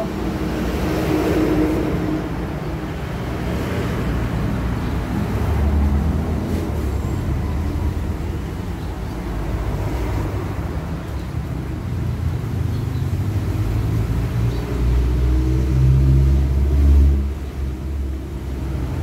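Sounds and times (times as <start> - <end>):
road traffic going by: 0.0 - 19.0.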